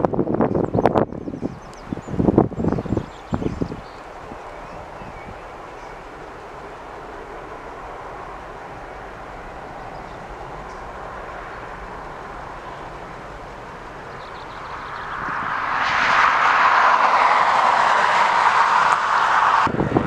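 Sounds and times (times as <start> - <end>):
jet airliner engines: 0.0 - 20.0.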